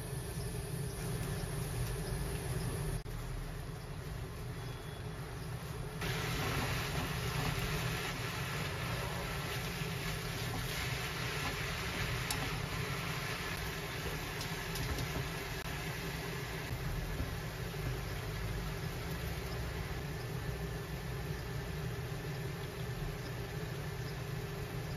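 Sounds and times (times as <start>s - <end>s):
leaves sizzling in a pan: 0.0s - 24.9s
low hum: 0.0s - 24.9s.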